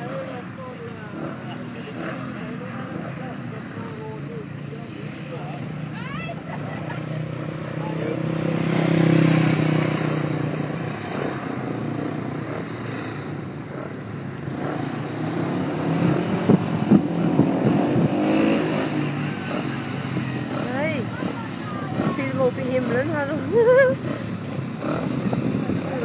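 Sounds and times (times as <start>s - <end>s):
motorcycle engines running: 0.0s - 26.0s
motorcycle passing close: 0.0s - 26.0s.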